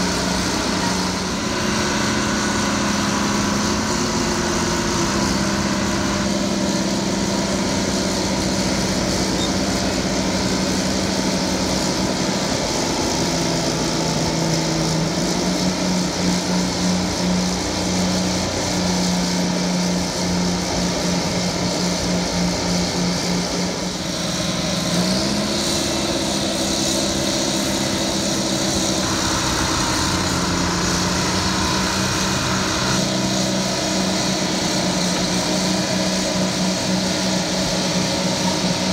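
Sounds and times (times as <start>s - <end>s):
bulldozer diesel engines running hard: 0.0s - 38.9s.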